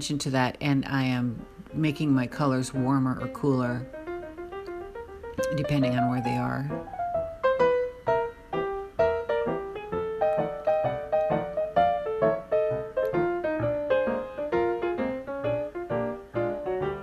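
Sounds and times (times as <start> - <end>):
piano melody: 1.0 - 17.0.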